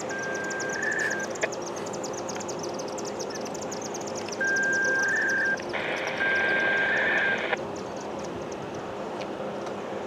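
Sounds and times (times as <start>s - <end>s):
insects chirping rapidly: 0.0s - 8.1s
steady high-pitched tone: 0.0s - 8.1s.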